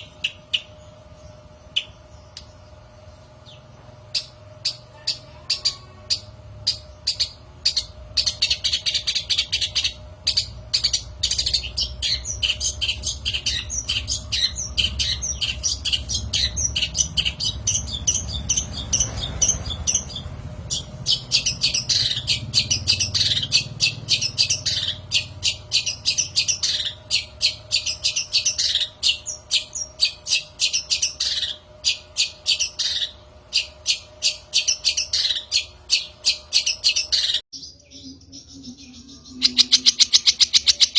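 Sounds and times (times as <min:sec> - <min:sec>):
shrike singing: 0:03.5 - 0:40.9.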